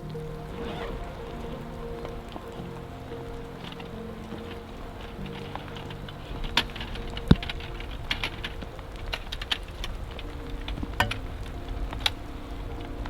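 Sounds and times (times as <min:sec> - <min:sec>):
raindrops tapping on fabric: 0:00.0 - 0:13.0
steady rain hiss: 0:00.0 - 0:13.0.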